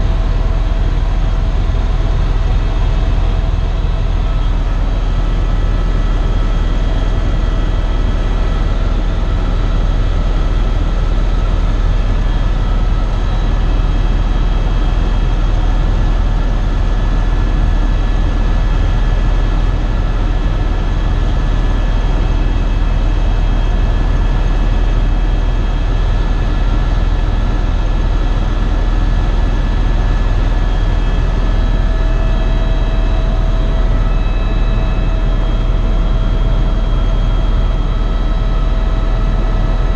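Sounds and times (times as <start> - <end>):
helicopter rotor and turbine drone: 0.0 - 39.9.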